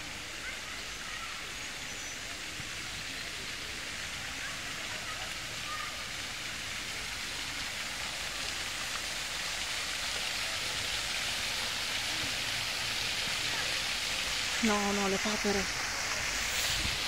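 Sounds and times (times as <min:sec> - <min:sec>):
rush of running water: 0:00.0 - 0:17.0.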